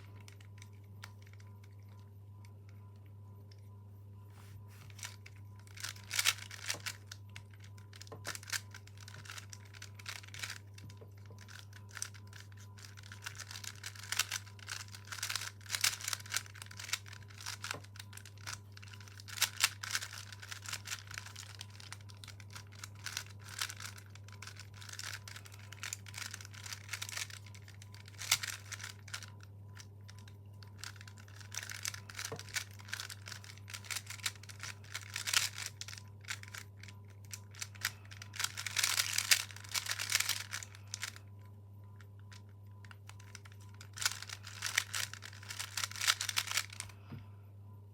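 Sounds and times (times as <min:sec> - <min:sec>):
puzzle cube clicking: 0:04.9 - 0:29.4, 0:30.1 - 0:41.2, 0:43.1 - 0:46.9.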